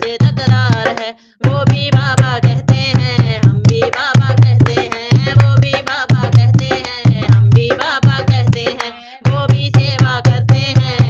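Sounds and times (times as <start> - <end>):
hand drum beat: 0.0 - 11.0
person singing: 0.0 - 11.0.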